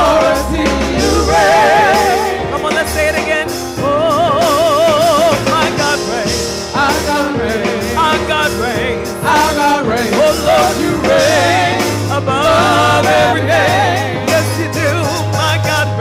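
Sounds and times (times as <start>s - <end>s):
electronic keyboard chords: 0.0s - 16.0s.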